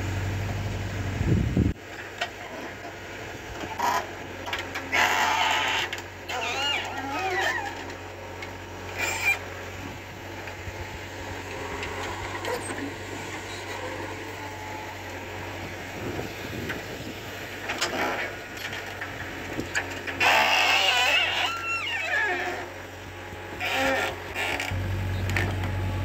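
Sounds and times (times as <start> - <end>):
backhoe loader engine running: 0.0 - 26.0.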